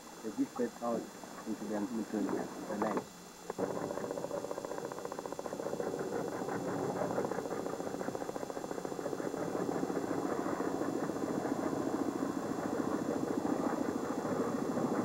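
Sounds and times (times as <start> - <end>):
boat engine throbbing: 2.7 - 15.0.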